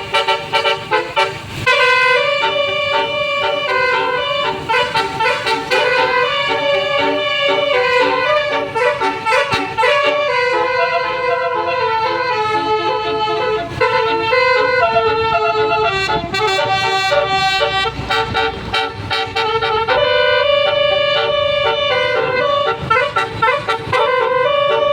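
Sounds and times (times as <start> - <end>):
low bus sound: 0.0 - 24.9
musical air horn tune: 0.0 - 24.9.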